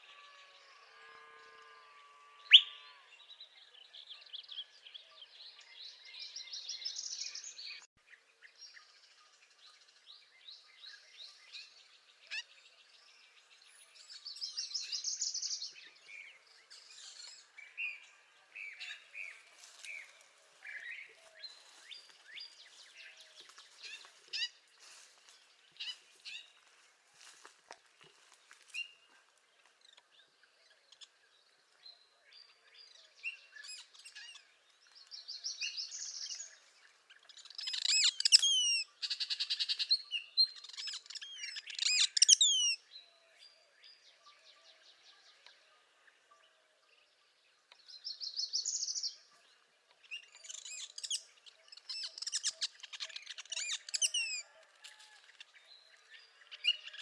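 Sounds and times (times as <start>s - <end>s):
buzzy bird song: 0.0s - 27.6s, 28.2s - 57.0s
songbirds singing: 0.0s - 57.0s.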